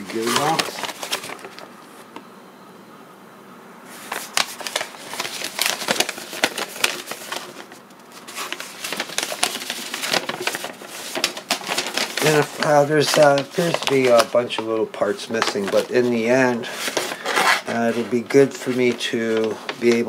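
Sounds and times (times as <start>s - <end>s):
paper sheets rustling: 0.0s - 2.1s, 3.9s - 20.0s.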